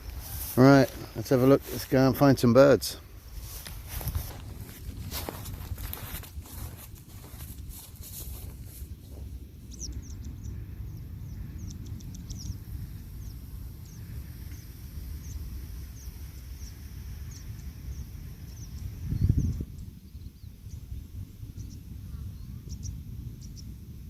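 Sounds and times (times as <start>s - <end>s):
small birds chirping: 0.0s - 23.8s
steady low rumble: 0.0s - 24.0s.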